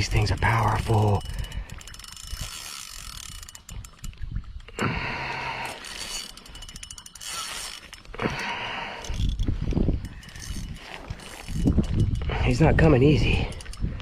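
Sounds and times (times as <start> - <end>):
fishing reel clicking and whirring: 0.0 - 14.0.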